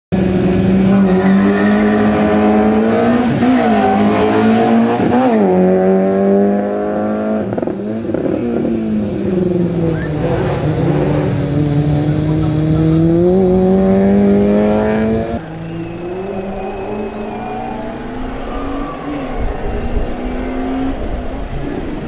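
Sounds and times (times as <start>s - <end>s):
race car engine at high revs: 0.1s - 22.0s.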